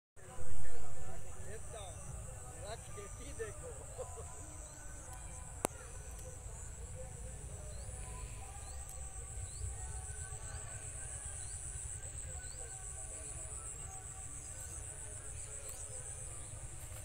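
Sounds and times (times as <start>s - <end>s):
crickets trilling: 0.7s - 17.0s.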